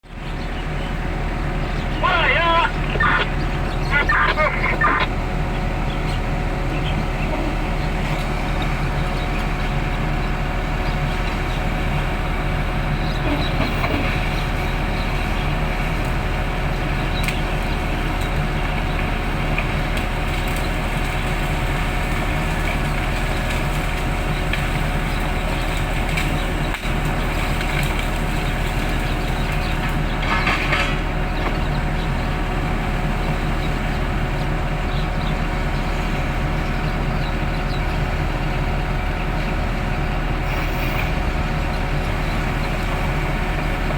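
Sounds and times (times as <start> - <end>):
heavy machinery engine running: 0.0 - 43.9.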